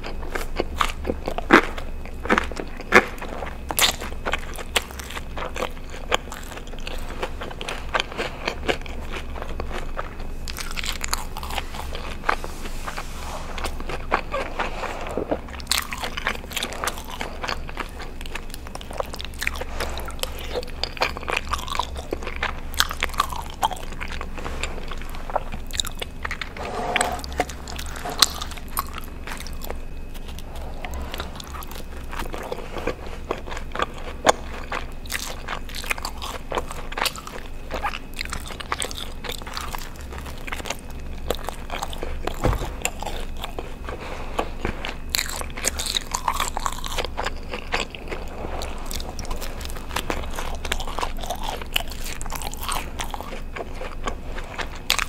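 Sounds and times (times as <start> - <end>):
chewing a soft breadstick: 0.0 - 55.0.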